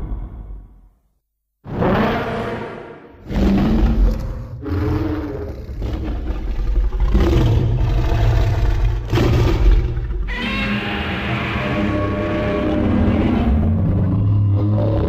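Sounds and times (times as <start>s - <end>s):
deep rumbling monster sounds: 0.0s - 0.9s, 1.7s - 15.0s.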